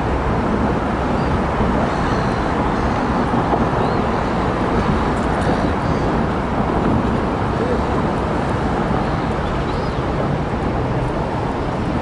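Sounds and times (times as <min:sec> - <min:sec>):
low rumble of engines and traffic: 0:00.0 - 0:12.0.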